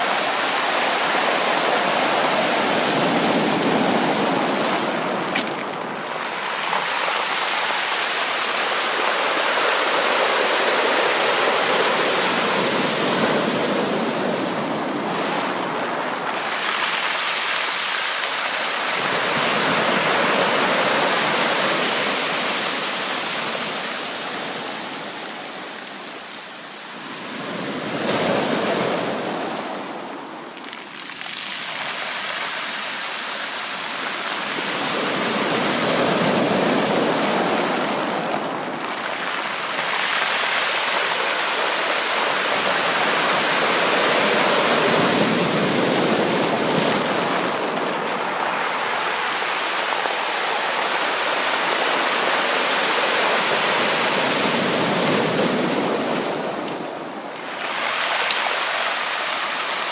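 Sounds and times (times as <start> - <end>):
sea waves breaking: 0.0 - 25.5, 33.6 - 59.9.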